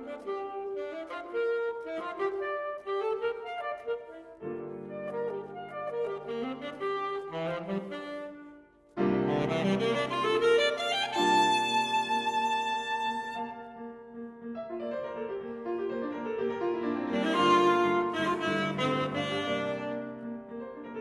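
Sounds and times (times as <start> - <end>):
saxophone: 0.0 - 13.9, 16.8 - 20.6
grand piano: 0.0 - 21.0.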